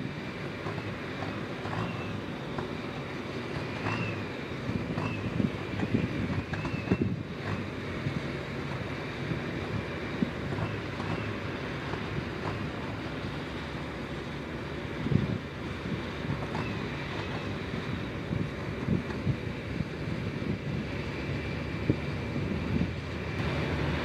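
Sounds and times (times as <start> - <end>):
diesel locomotive engines rumbling: 0.0 - 24.0
wind buffeting microphone: 0.0 - 24.0.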